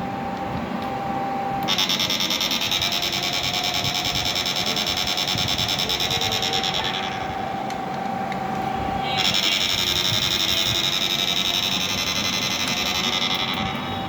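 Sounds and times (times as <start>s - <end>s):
electrical buzz with high whine: 0.0s - 14.0s.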